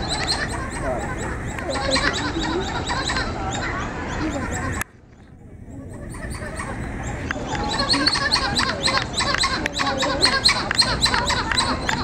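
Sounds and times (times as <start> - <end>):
monkeys chirping calls: 0.0 - 12.0.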